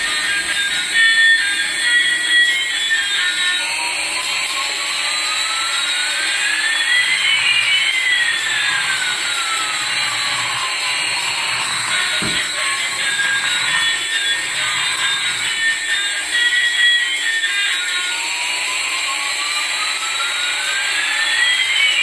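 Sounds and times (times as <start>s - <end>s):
falling whistle: 0.0s - 22.0s
rising whistle: 0.0s - 22.0s
toy jet engine hiss: 0.0s - 22.0s.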